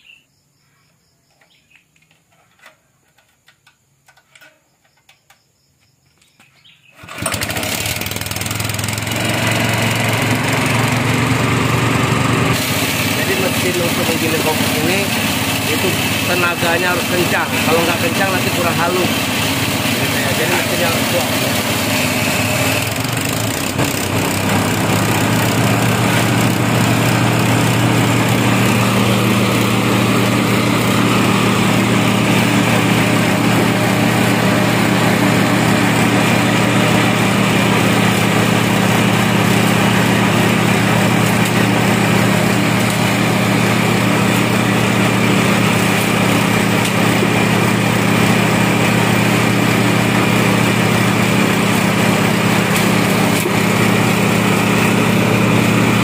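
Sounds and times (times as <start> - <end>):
compost being ground: 7.0 - 56.0
small petrol engine running: 7.0 - 56.0.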